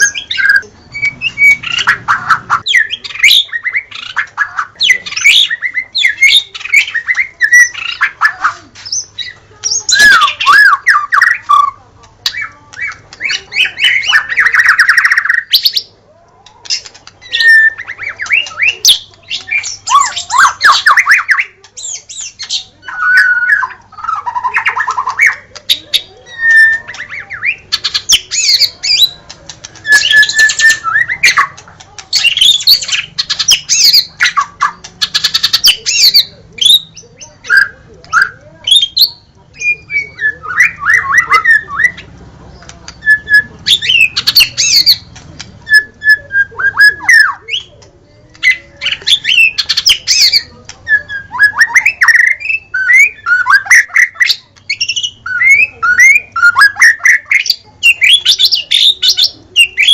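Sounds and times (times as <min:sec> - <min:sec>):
bird singing whistles and trills: 0:00.0 - 0:08.2, 0:16.8 - 0:29.2, 0:29.8 - 0:42.1, 0:43.0 - 0:45.0, 0:45.7 - 0:47.8, 0:48.4 - 0:59.9.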